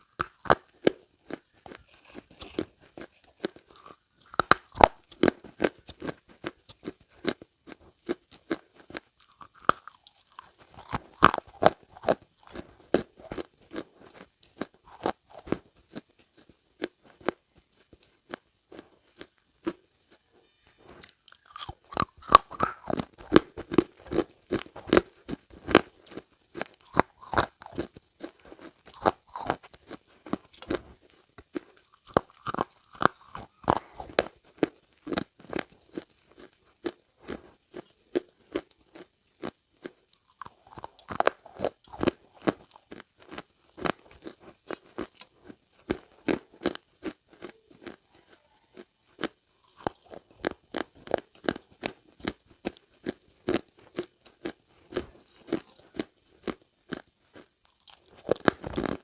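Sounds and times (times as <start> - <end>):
close-up crunching: 0.0 - 59.0.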